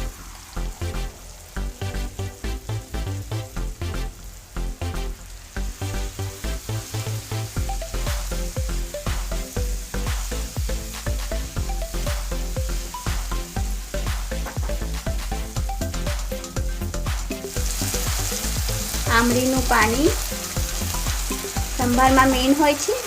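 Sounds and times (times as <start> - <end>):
background music with beat: 0.0 - 23.0
vegetables sizzling in oil: 0.0 - 23.0.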